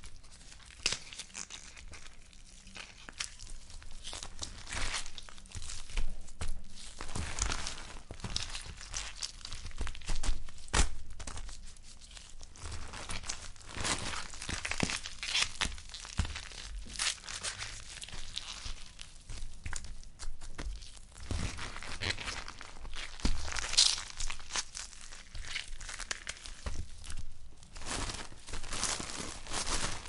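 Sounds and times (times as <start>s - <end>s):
wet tearing and squelching: 0.4s - 30.0s.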